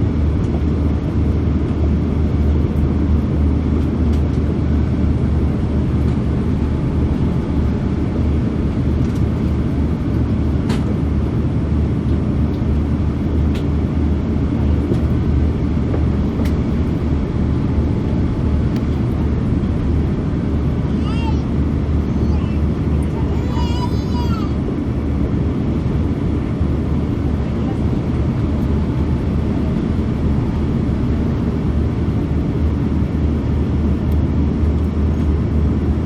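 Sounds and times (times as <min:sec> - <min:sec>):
airliner cabin drone: 0:00.0 - 0:36.0.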